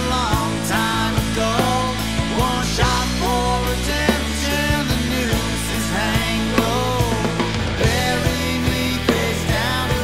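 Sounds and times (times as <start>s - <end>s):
drums: 0.0s - 10.0s
rock band playing: 0.0s - 10.0s.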